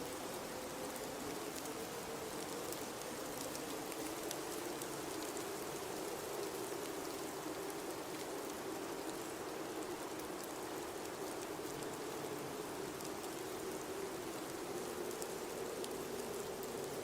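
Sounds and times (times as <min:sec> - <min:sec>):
faint ticks: 0:00.2 - 0:17.0.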